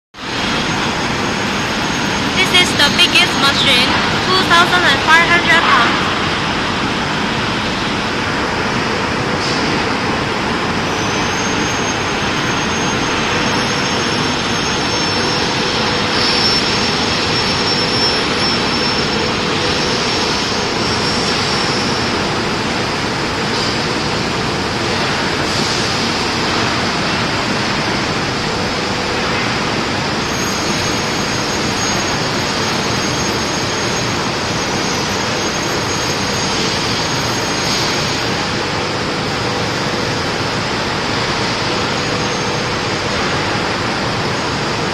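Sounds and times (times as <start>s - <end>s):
high machine whine: 0.2s - 44.9s
steady machine hum: 0.2s - 44.9s.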